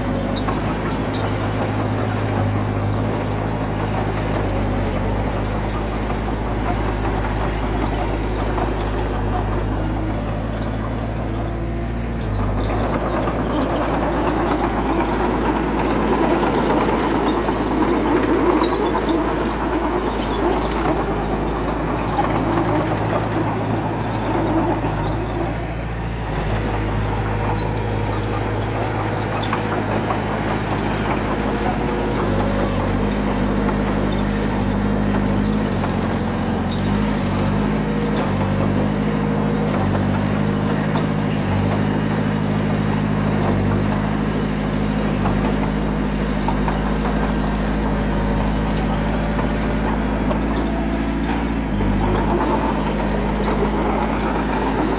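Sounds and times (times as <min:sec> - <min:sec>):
heavy diesel engine under load: 0:00.0 - 0:54.9.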